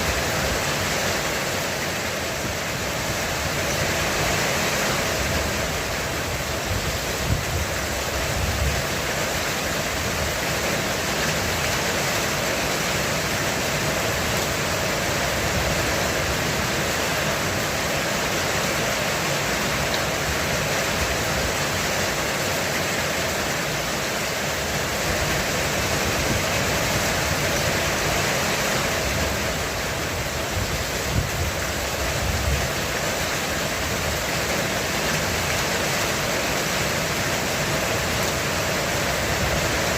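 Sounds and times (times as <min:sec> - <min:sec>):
heavy rain drumming on roof: 0:00.0 - 0:39.9.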